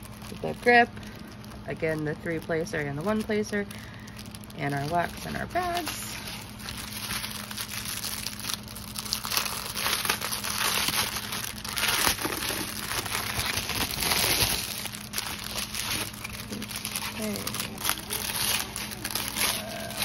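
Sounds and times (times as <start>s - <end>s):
cellophane crinkling: 0.0s - 20.0s.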